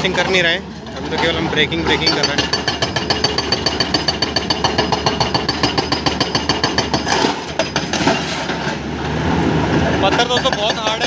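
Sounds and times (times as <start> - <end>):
hydraulic rock breaker hammering: 0.0 - 8.8, 10.0 - 11.0.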